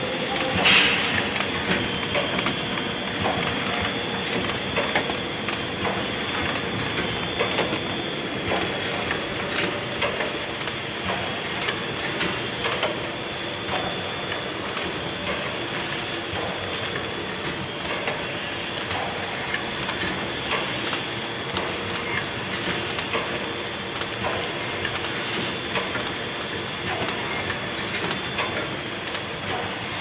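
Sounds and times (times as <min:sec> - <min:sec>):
machine hum with high whine: 0:00.0 - 0:30.0.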